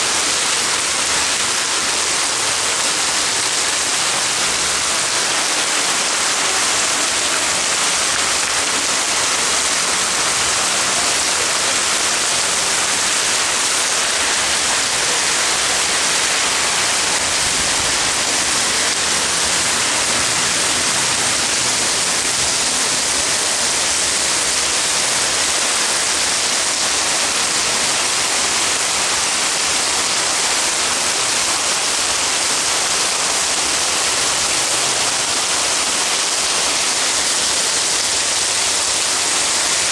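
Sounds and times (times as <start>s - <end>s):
heavy rain pouring on roofs: 0.0s - 39.9s.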